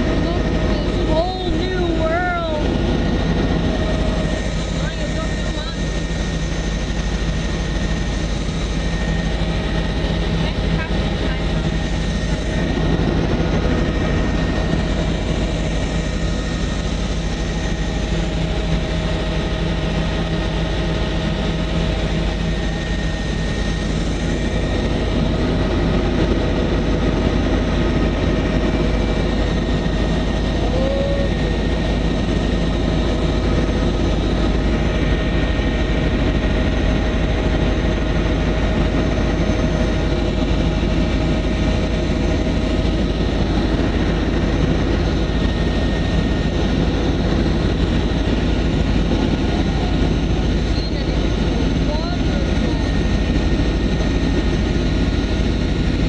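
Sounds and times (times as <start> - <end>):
helicopter cabin engine noise: 0.0 - 56.0.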